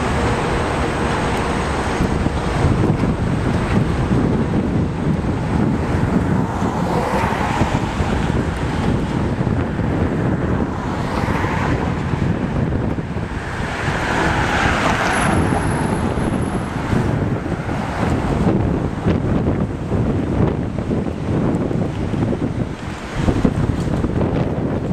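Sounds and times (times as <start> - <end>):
cars passing: 0.0 - 24.9
wind buffeting microphone: 0.0 - 24.9.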